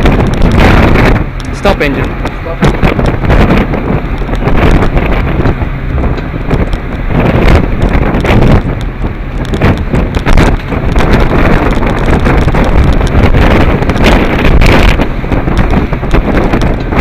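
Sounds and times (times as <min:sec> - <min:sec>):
gusting wind on microphone: 0:00.0 - 0:17.0.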